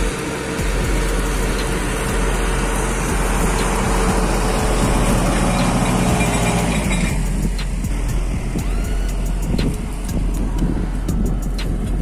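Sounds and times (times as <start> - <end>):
tractor engine working under load: 0.0 - 12.0.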